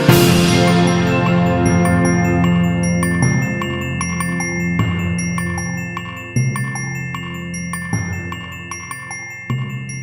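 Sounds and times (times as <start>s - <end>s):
bell-like mallet notes: 0.0s - 10.0s.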